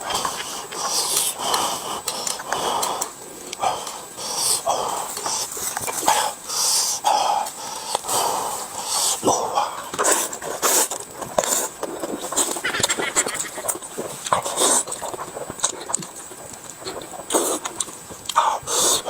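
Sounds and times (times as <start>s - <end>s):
noisy eating: 0.0s - 19.0s
wheezy snuffling breaths: 0.0s - 19.0s.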